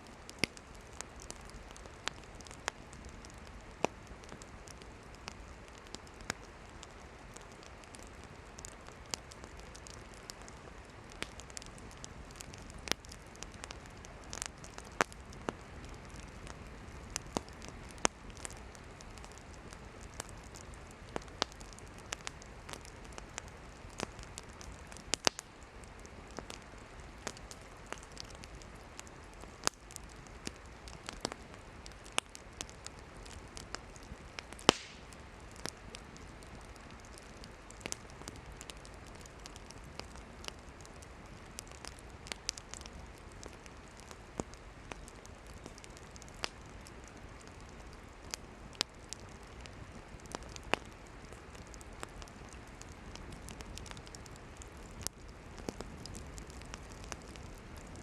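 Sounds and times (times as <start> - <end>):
campfire crackling and popping: 0.0 - 58.0
fire hissing: 0.0 - 58.0.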